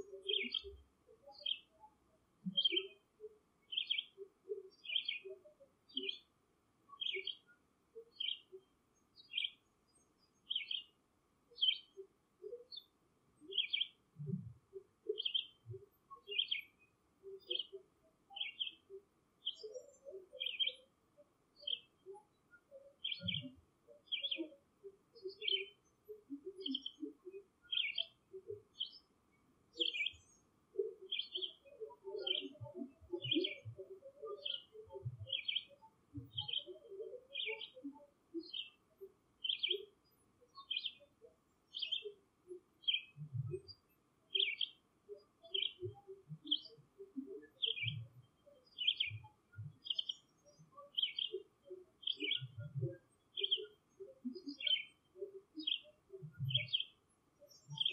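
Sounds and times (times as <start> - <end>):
bird high chirp: 0.0 - 1.7, 2.4 - 3.0, 3.7 - 6.2, 7.0 - 7.5, 8.1 - 8.6, 10.3 - 10.9, 11.6 - 14.4, 15.1 - 20.9, 21.6 - 24.6, 25.2 - 25.8, 26.4 - 29.1, 29.8 - 42.2, 42.8 - 57.9
soft low squeaks and chirps: 0.0 - 57.9.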